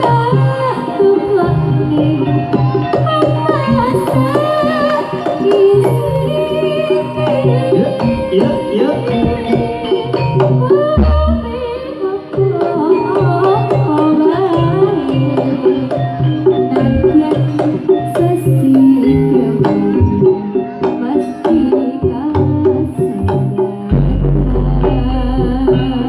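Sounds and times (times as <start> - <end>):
hand drums: 0.0 - 26.0
sustained gamelan tones: 0.0 - 26.0
woman singing: 0.0 - 26.0.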